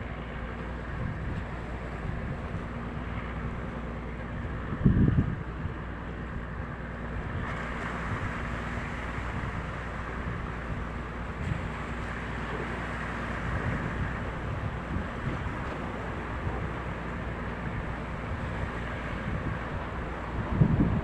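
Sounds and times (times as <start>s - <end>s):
boat engine running: 0.0s - 21.0s
water rushing: 0.0s - 21.0s
wind buffeting microphone: 0.0s - 21.0s.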